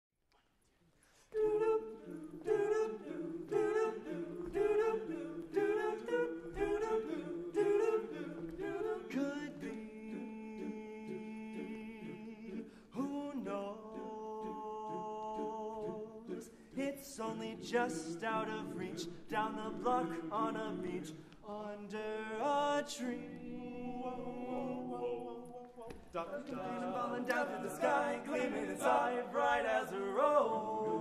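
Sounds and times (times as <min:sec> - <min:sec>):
men's chorus singing a cappella: 0:01.3 - 0:31.0.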